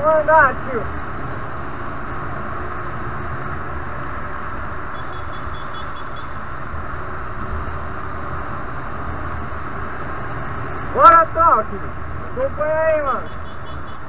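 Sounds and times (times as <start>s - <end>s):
motorcycle engine drone: 0.0s - 14.0s.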